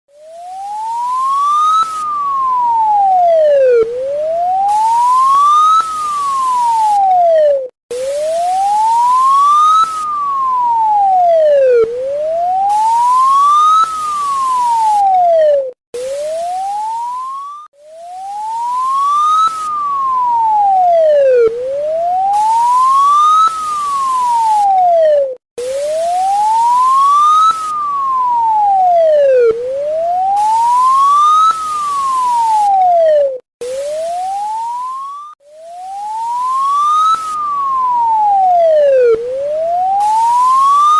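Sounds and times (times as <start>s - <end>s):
siren wailing: 0.2s - 40.9s.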